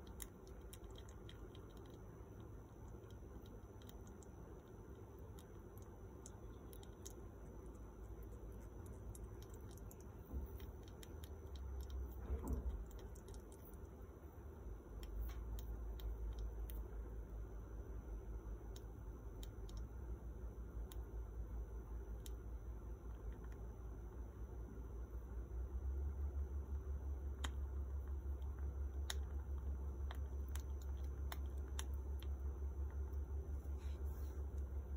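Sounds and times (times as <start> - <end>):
squirrel suckling wet clicks: 0.0 - 17.5, 18.2 - 23.7, 27.1 - 33.7
steady low hum: 0.0 - 34.9.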